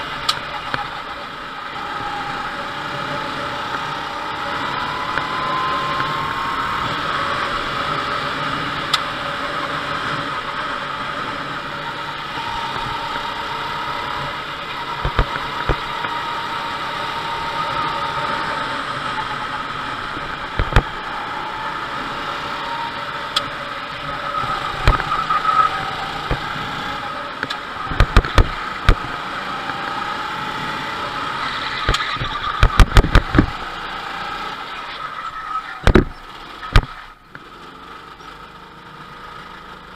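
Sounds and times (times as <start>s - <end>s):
steady rush of noise: 0.0s - 37.5s
go-kart engine running: 0.0s - 39.9s.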